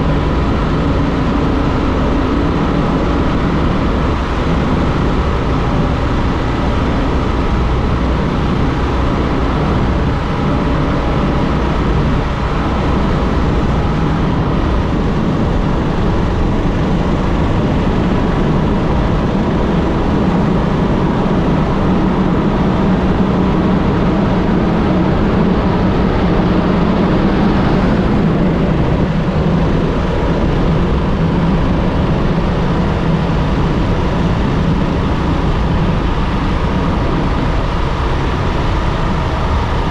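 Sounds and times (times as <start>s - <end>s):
road noise: 0.0s - 39.9s
vehicle engine drone: 0.0s - 39.9s.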